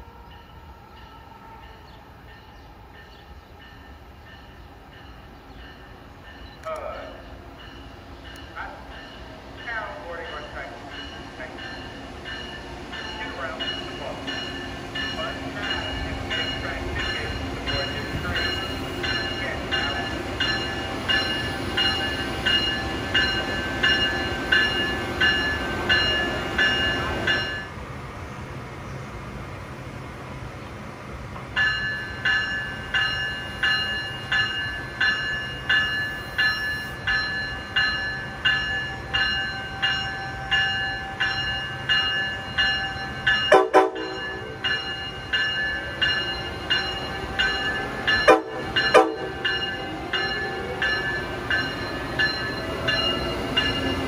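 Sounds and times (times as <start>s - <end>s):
distant train rumbling: 0.0s - 54.0s.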